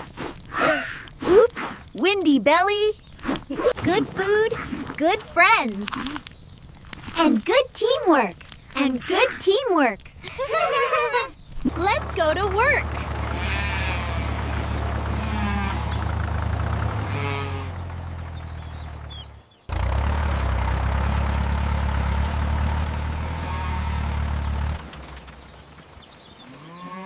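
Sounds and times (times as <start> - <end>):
vehicle engine rumbling: 0.4 - 26.8.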